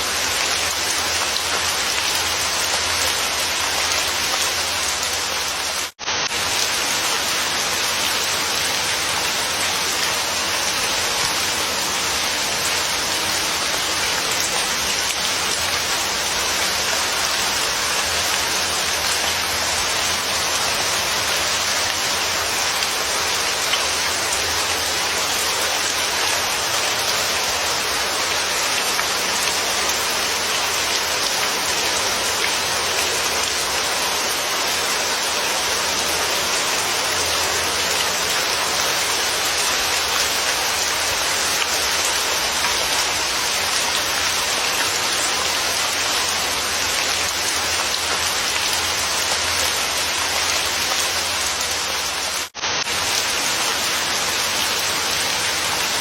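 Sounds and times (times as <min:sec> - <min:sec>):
dense rain falling: 0:00.0 - 0:56.0.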